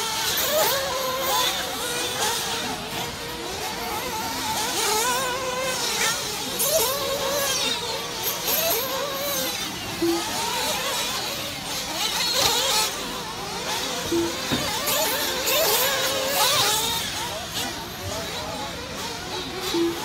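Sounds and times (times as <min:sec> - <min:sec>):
rc buggy engines revving: 0:00.0 - 0:20.0.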